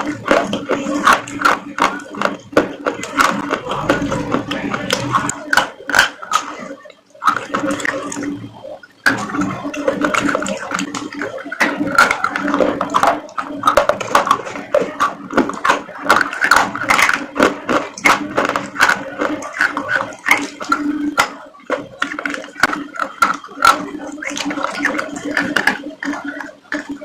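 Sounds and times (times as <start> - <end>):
chewing crunchy food: 0.0 - 27.0.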